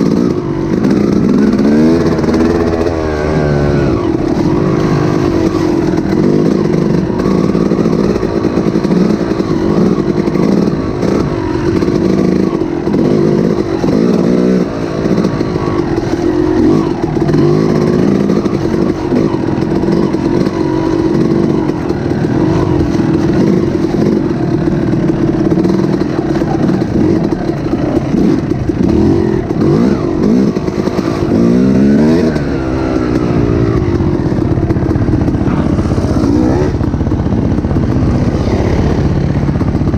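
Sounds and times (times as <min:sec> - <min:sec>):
loud engine running: 0:00.0 - 0:39.9.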